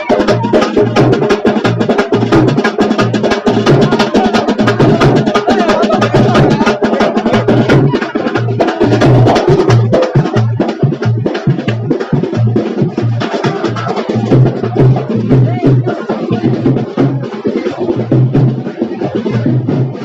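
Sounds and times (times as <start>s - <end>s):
loud fast drumming: 0.0s - 20.0s.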